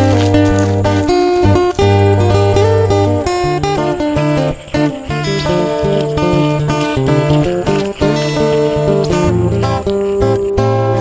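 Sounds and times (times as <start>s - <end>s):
blues instrumental music: 0.0s - 11.0s
plucked guitar notes: 0.0s - 11.0s
stepping bass line: 0.0s - 11.0s.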